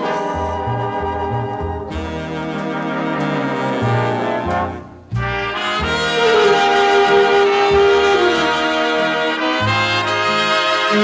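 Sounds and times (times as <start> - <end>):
brass section playing: 0.0 - 11.0.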